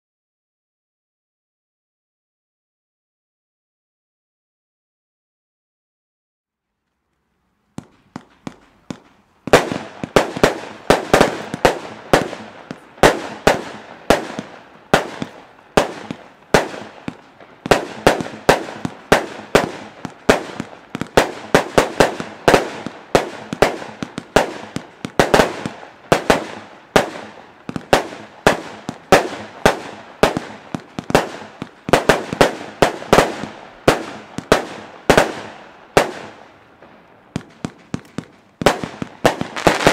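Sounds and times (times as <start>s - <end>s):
faint fireworks pops: 6.9s - 39.9s
fireworks shots and bursts: 7.8s - 39.9s.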